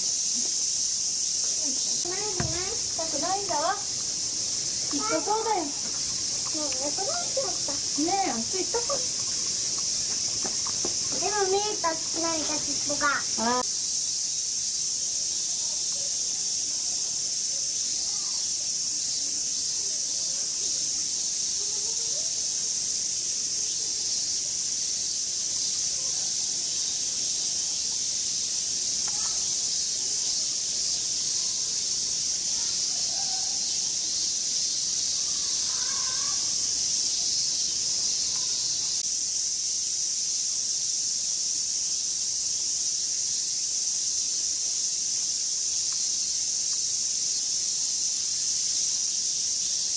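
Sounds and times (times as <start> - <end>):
cicada chorus drone: 0.0 - 49.9.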